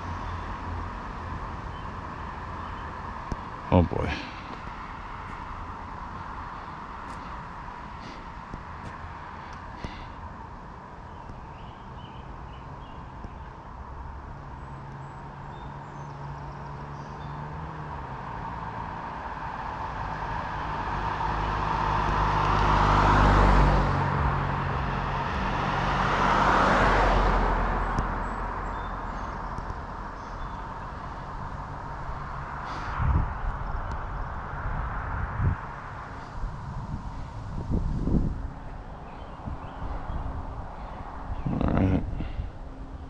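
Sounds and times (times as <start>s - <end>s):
cars driving past: 0.0s - 43.0s.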